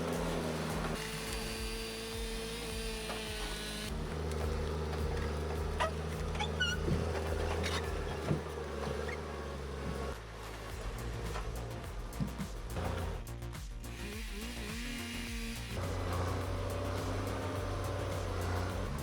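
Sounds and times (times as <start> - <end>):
diesel engine running: 0.0 - 13.3, 13.9 - 19.0.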